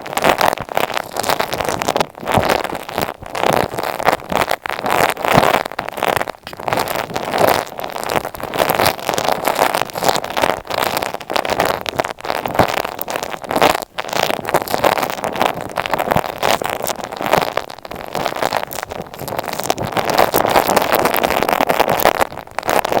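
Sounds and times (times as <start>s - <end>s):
scratching against microphone: 0.0s - 23.0s.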